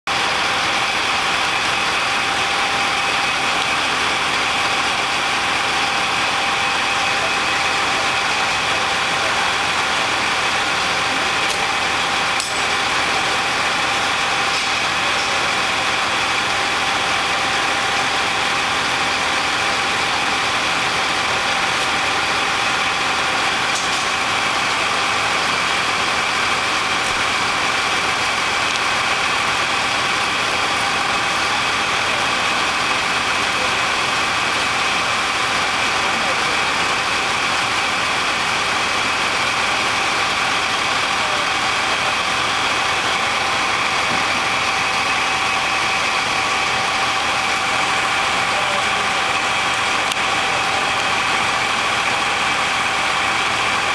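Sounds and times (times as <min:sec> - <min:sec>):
fire engine idling: 0:00.0 - 0:53.9
constant high whine: 0:00.1 - 0:53.9.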